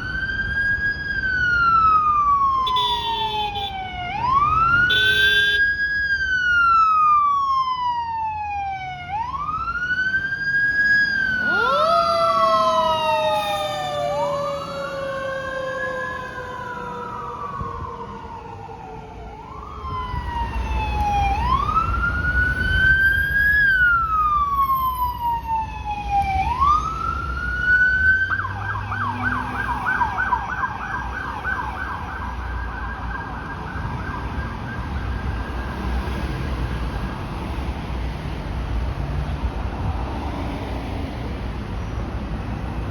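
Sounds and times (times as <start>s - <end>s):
siren wailing: 0.0s - 37.3s
lower siren tone: 0.0s - 37.4s
siren rapid yelp: 1.0s - 9.8s, 10.4s - 37.0s.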